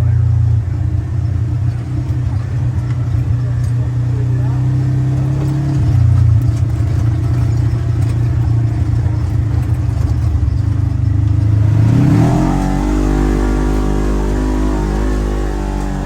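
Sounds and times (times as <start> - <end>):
utility vehicle engine running and revving: 0.0 - 16.0.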